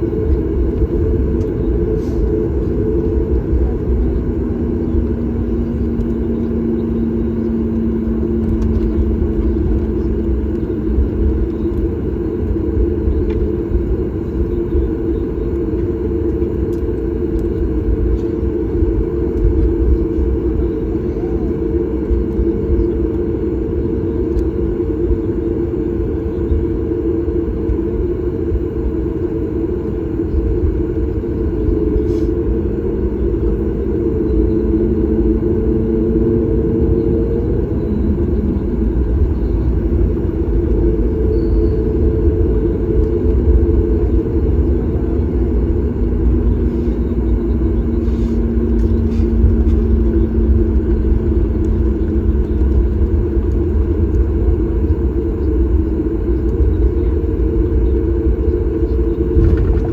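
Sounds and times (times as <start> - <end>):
aircraft cabin engine rumble: 0.0 - 59.9.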